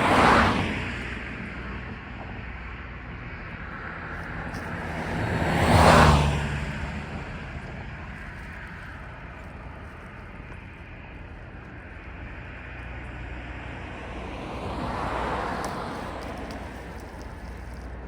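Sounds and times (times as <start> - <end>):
vehicle rumble: 0.0 - 18.0
whoosh of passing vehicle: 0.0 - 18.0.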